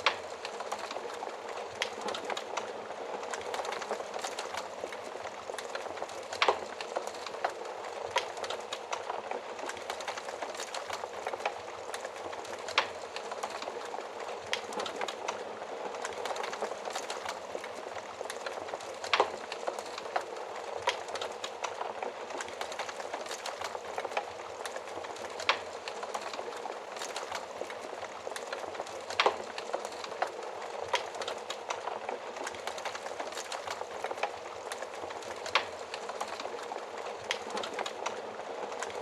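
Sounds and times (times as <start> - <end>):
fire crackling and popping: 0.0 - 39.0.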